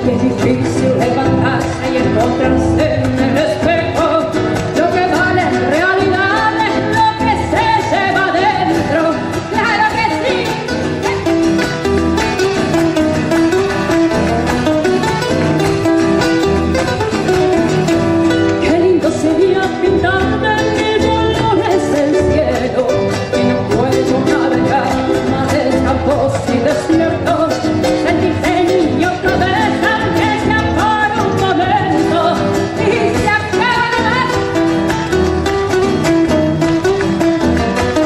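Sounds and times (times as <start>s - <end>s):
person singing: 0.0s - 15.7s, 16.4s - 36.2s
acoustic guitar: 0.0s - 38.0s.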